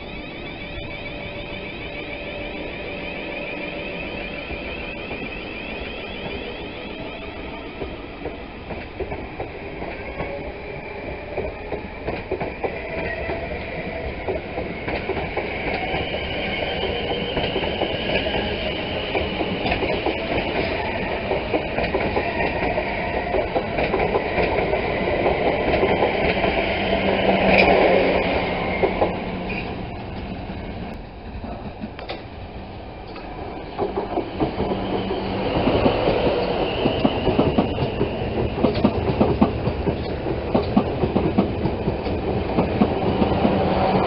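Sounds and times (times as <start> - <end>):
train wheels clattering: 4.2 - 30.4, 33.0 - 44.0.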